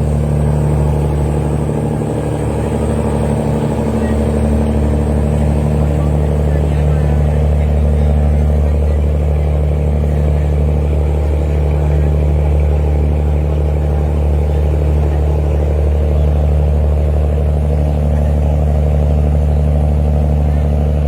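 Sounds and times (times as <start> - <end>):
boat diesel engine droning: 0.0 - 21.0.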